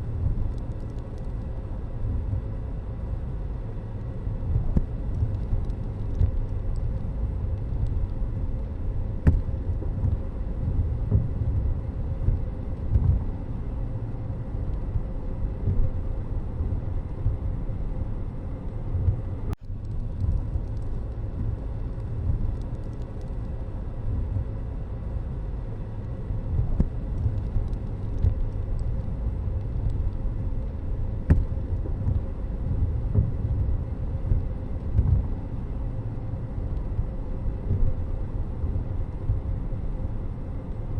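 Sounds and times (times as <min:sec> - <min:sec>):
road noise fluttering: 0:00.0 - 0:40.9
vehicle low rumble: 0:00.0 - 0:40.9.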